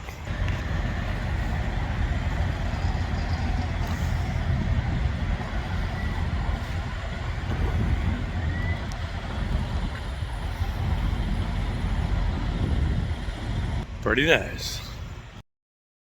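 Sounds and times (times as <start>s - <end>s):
truck engine and road noise: 0.0s - 15.4s.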